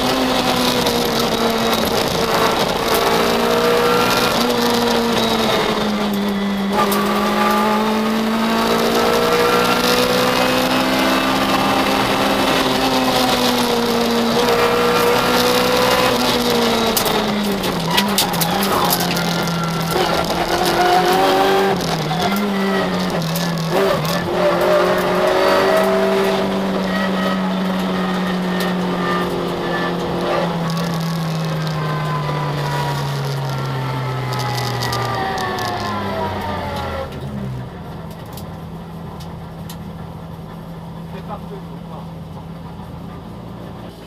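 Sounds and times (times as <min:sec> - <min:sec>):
car engine under load: 0:00.0 - 0:44.0.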